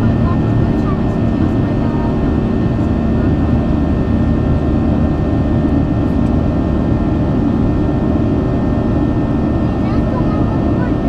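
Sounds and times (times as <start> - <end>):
jet engine drone in cabin: 0.0 - 11.0.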